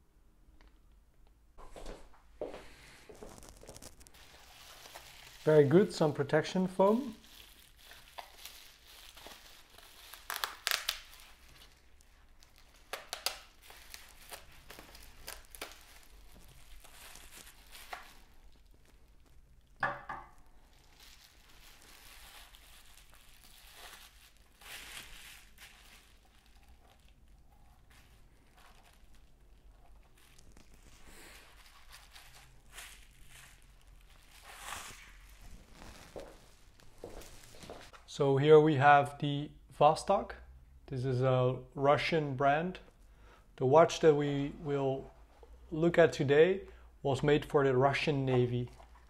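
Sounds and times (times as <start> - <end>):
bubble wrap crinkling and rustling: 2.6 - 38.1, 43.9 - 49.0.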